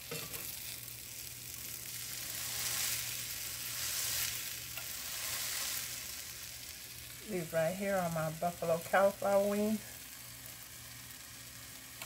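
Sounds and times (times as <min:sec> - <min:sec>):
patty sizzling in a skillet: 0:00.0 - 0:12.0.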